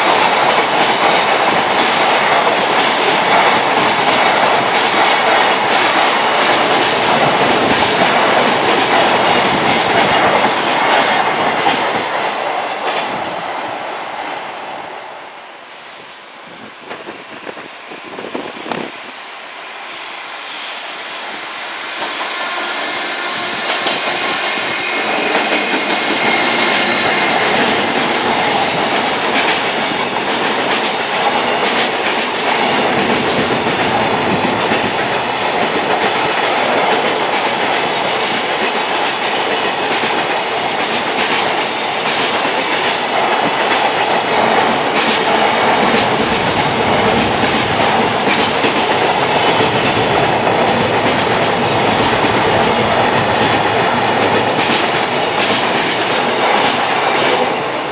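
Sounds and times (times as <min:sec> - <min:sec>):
freight train passing: 0:00.0 - 0:57.9.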